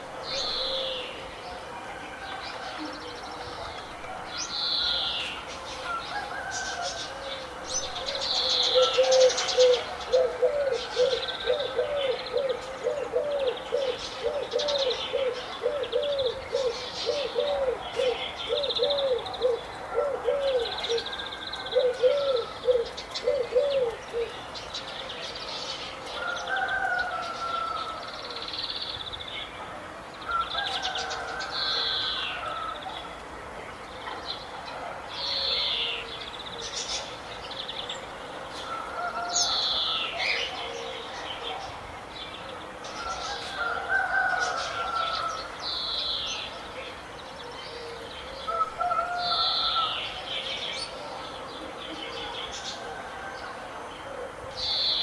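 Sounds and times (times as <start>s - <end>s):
birds chirping and trilling: 0.0s - 29.6s, 33.9s - 55.0s.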